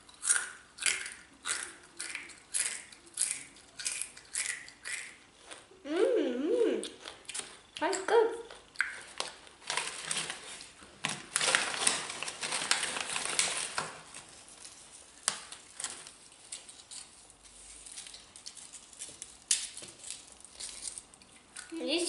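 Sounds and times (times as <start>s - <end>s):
potato crisps being chewed: 0.0s - 5.8s, 6.8s - 21.8s.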